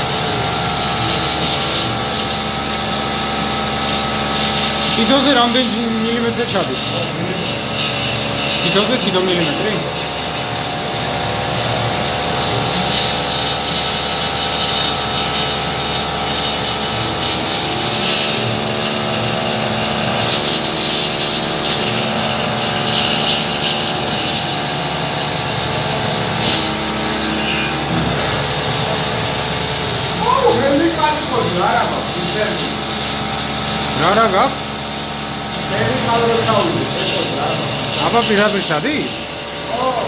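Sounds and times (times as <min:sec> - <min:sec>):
hiss of spraying coolant: 0:00.0 - 0:40.0
milling spindle whine: 0:00.0 - 0:40.0.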